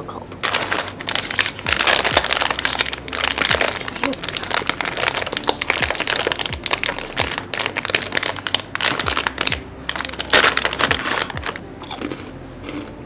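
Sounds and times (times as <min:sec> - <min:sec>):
plastic snack bag crinkling: 0:00.4 - 0:12.9.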